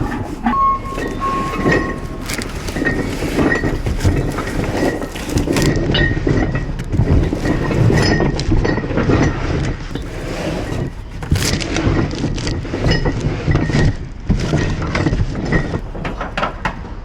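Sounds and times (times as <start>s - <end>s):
clattering and clinking rattles: 0.0s - 17.0s
van engine rumble: 0.0s - 17.0s.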